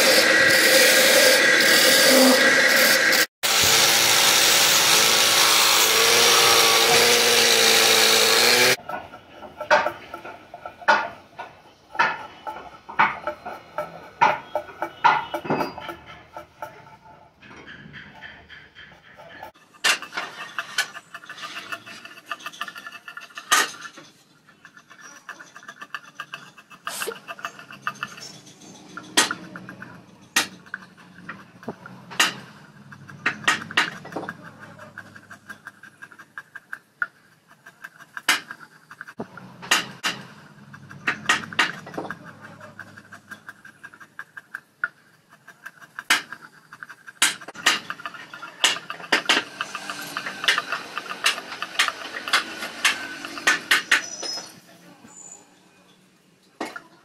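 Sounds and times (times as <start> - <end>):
blade scraping wood: 0.0 - 17.0, 17.7 - 55.2.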